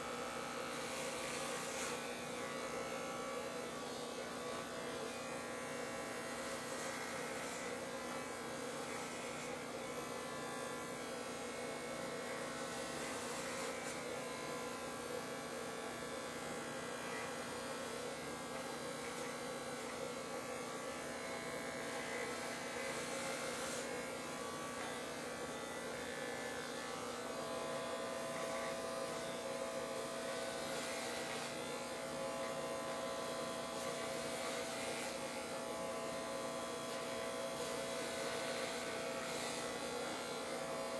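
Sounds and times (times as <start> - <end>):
electric hair clippers buzzing: 0.0 - 40.9.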